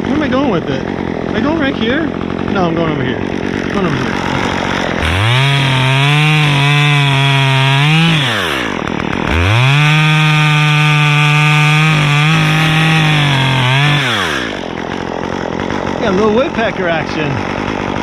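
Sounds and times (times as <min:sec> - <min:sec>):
chainsaw revving and cutting wood: 0:00.0 - 0:18.0.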